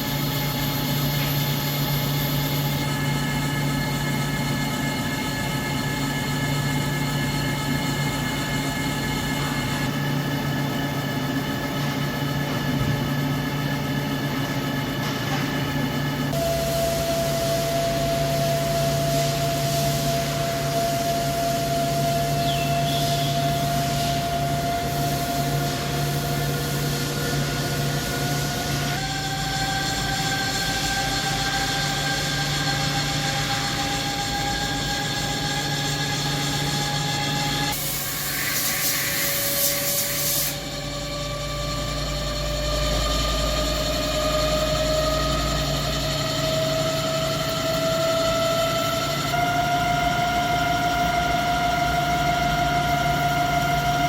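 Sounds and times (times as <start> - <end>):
high rising whine: 0.0 - 54.0
lathe machine hum and whine: 0.0 - 54.0.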